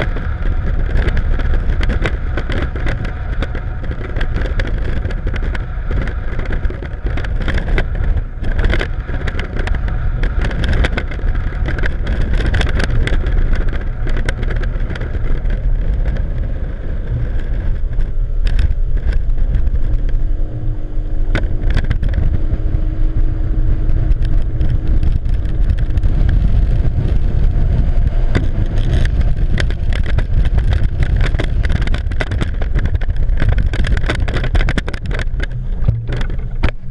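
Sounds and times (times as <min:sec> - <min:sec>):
outboard motors: 0:00.0 - 0:36.9
wind on microphone: 0:00.0 - 0:36.9.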